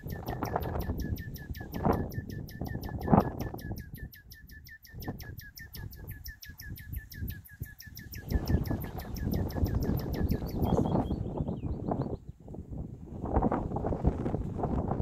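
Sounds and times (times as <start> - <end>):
wind gusts on microphone: 0.0 - 15.0.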